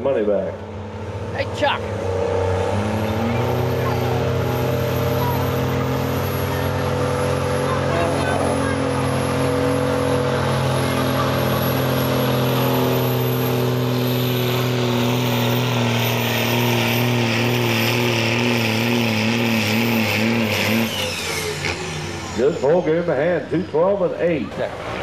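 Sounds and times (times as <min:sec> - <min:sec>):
diesel truck engine under load: 0:00.0 - 0:25.0.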